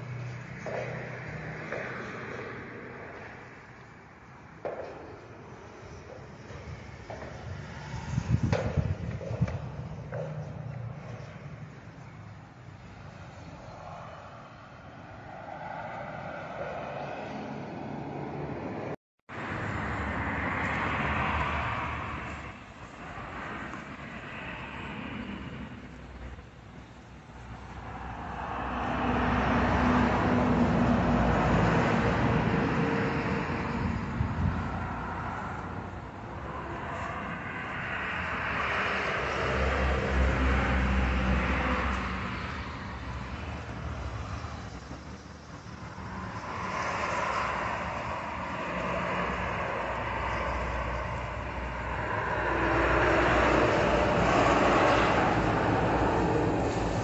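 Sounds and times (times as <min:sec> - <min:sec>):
outdoor rushing noise: 0:00.0 - 0:57.0.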